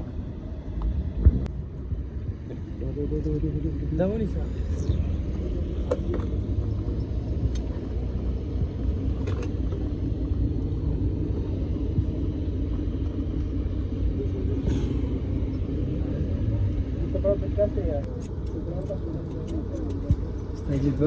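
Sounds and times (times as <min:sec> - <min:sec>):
engine running with low rumble: 0:00.0 - 0:21.0.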